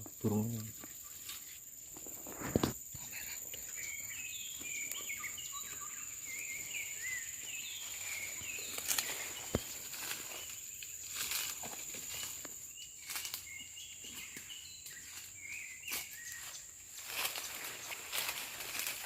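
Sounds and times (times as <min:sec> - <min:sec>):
bird chirping: 0:00.0 - 0:19.0
high-pitched insect drone: 0:00.0 - 0:19.0.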